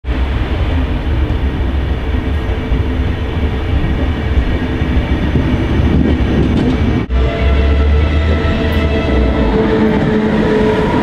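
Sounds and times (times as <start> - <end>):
locomotive low hum: 0.0 - 11.0
train wheels rumbling on rail: 0.0 - 11.0.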